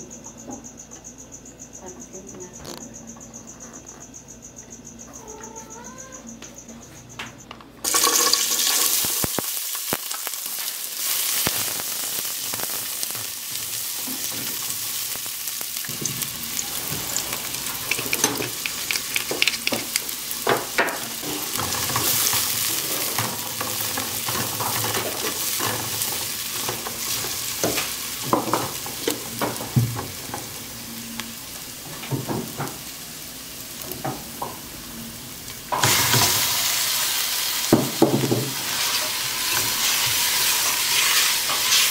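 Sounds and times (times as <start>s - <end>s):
onion and garlic sizzling in oil: 7.8s - 41.9s.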